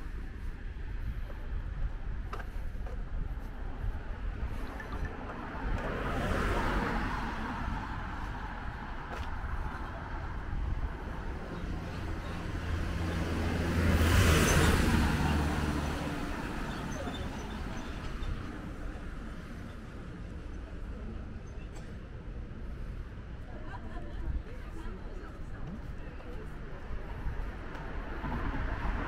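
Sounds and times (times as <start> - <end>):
road traffic: 0.0 - 29.0.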